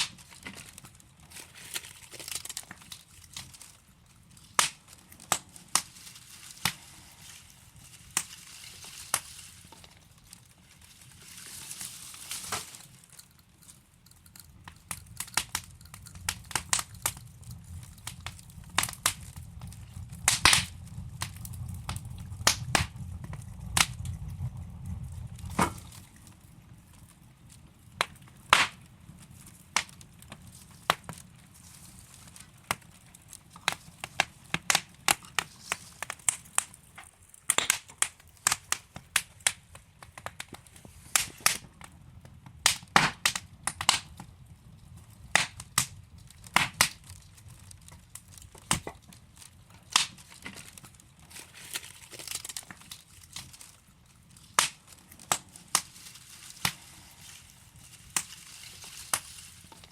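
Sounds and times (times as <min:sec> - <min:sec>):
low hiss of flames: 0:00.0 - 0:51.6, 0:52.3 - 0:59.9
wood fire crackling: 0:00.0 - 0:59.9.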